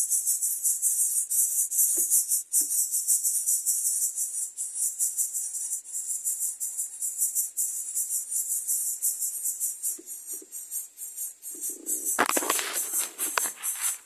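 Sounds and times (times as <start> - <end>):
insect trilling: 0.0 - 14.0.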